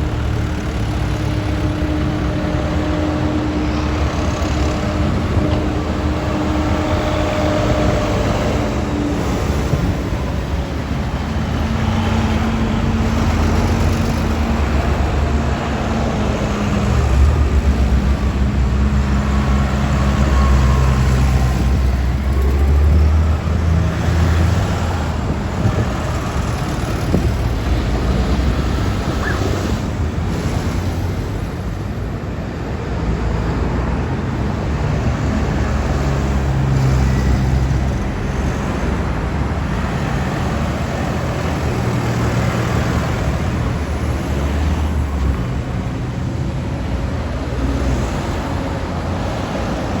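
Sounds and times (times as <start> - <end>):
tractor engines driving past: 0.0 - 50.0.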